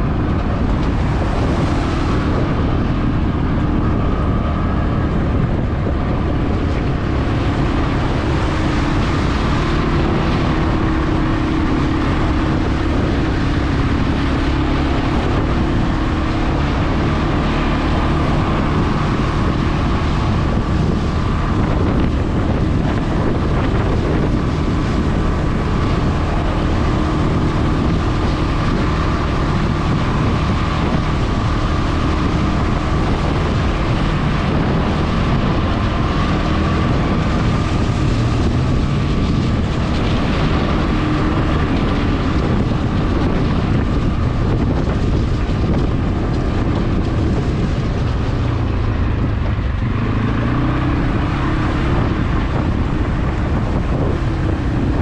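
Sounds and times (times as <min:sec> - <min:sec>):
atv engine running: 0:00.0 - 0:55.0
wind rumble on microphone: 0:00.0 - 0:55.0.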